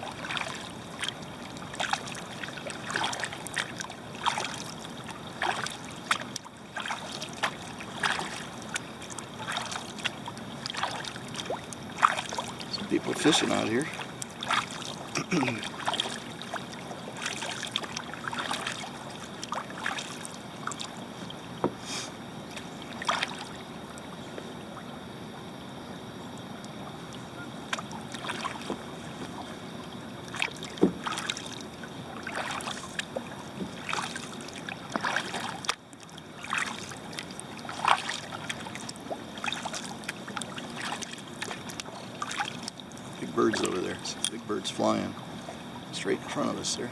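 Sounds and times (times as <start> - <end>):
paddle splashing in water: 0.0 - 46.9.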